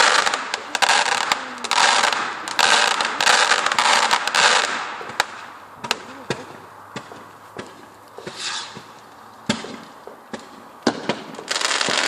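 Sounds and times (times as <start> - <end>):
fireworks crackling bursts: 0.0 - 12.0.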